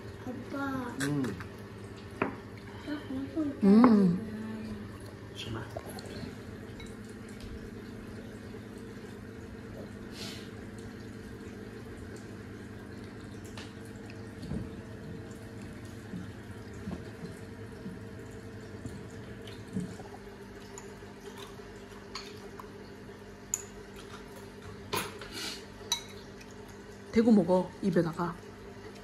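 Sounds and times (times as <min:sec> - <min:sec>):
background hum: 0:00.0 - 0:29.0
soft eating noises: 0:00.0 - 0:29.0.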